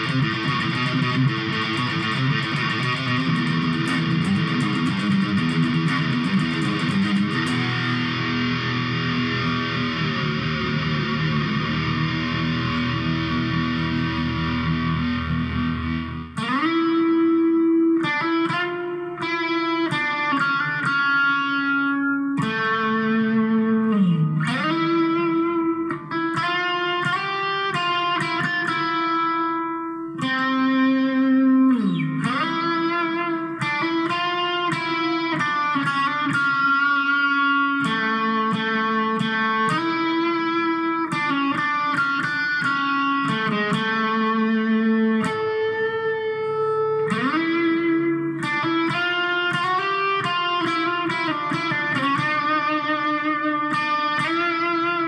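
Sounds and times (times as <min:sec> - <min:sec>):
electric guitar playing: 0:00.0 - 0:55.0.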